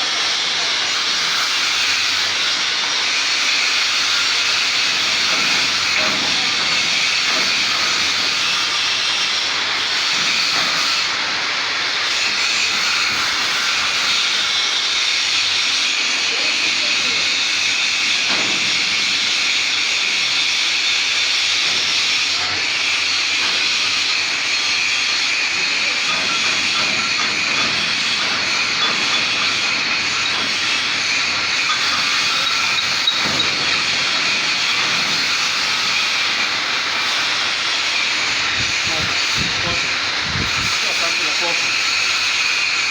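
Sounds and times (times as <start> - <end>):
welding arc hissing: 0.0 - 42.9.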